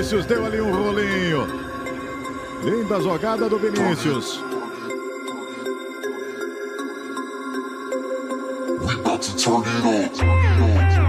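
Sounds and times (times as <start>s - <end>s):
calm ambient electronic music: 0.0s - 11.0s.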